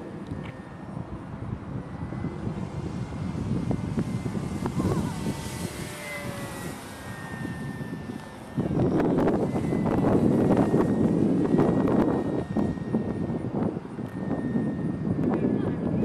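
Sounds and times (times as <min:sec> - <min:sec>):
model plane motor whining: 0:00.0 - 0:16.0
wind rumble on microphone: 0:00.0 - 0:16.0.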